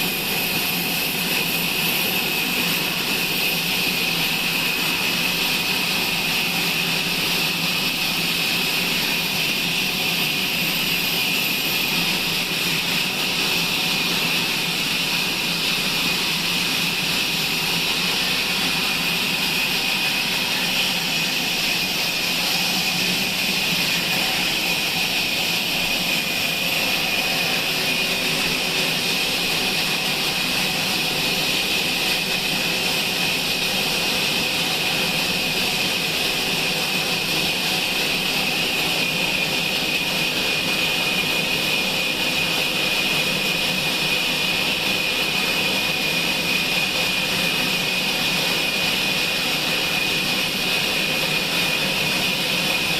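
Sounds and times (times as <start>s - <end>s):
sawmill saw whining: 0.0s - 52.9s.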